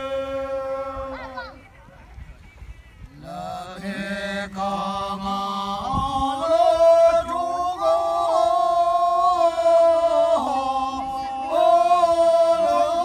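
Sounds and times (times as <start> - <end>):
men chanting in unison: 0.0 - 1.6, 3.2 - 13.0.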